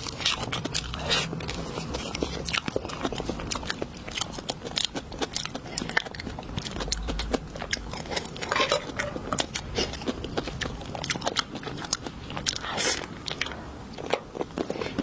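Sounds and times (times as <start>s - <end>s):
crunchy food being chewed: 0.0s - 15.0s.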